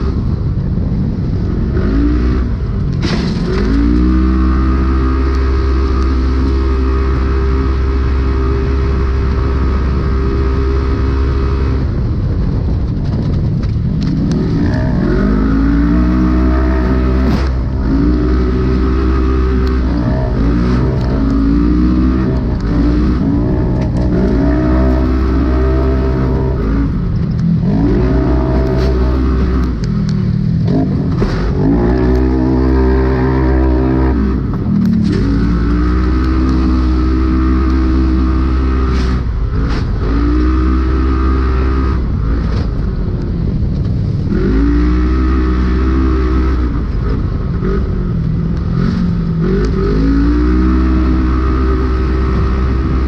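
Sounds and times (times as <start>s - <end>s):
engine revving: 0.0s - 53.0s.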